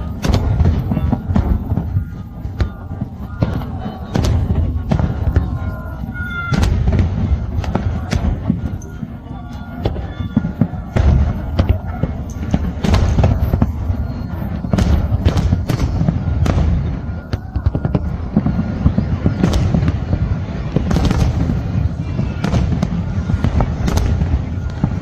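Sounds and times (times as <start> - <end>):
fireworks bangs: 0.0 - 25.0
low rumble of distant detonations: 0.0 - 25.0.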